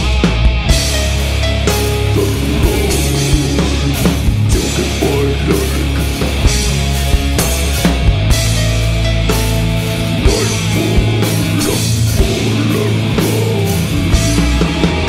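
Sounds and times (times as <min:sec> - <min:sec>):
heavy guitar and bass chords: 0:00.0 - 0:15.0.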